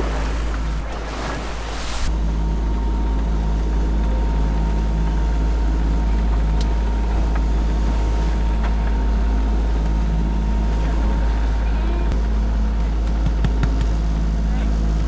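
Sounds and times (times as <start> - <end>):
boat engine droning: 0.0 - 15.0
thin steady whine: 0.0 - 15.0.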